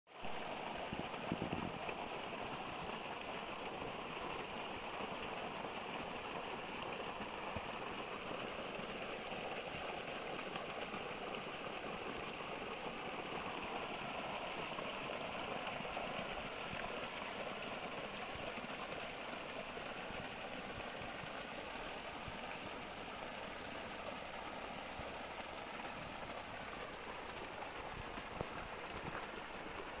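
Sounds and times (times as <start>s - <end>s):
water gushing from pipe: 0.3s - 30.0s.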